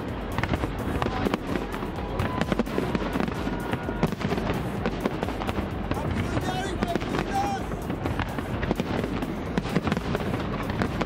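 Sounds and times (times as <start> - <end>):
fireworks bursting and crackling: 0.0 - 11.0
music playing: 0.0 - 11.0.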